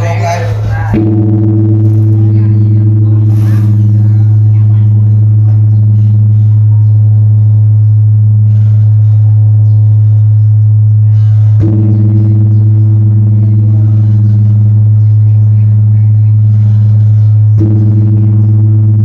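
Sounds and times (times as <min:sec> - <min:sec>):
huge bronze bell ringing: 0:00.0 - 0:19.0.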